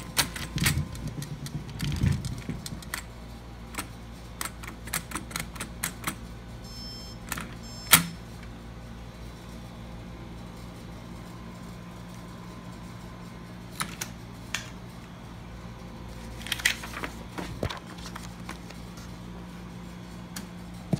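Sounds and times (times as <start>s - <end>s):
low room hum: 0.0s - 20.9s.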